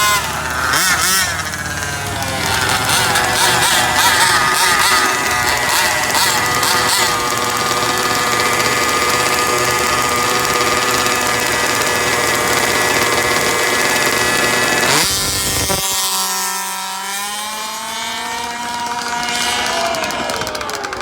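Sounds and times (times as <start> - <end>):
small two-stroke engine idling: 0.0 - 21.0.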